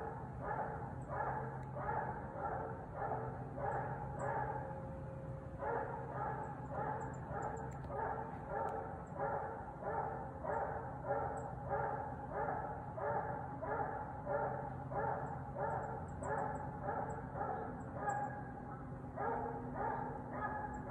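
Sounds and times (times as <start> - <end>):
hound barking: 0.0 - 4.8, 5.6 - 20.9.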